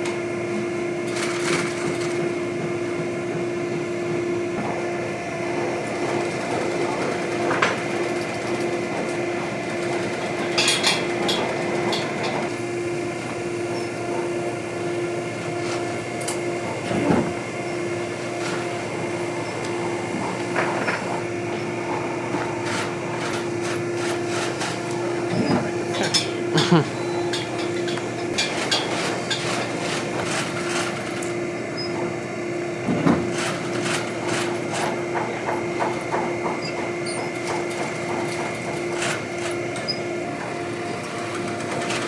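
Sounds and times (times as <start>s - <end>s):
machinery motor hum: 0.0s - 42.0s.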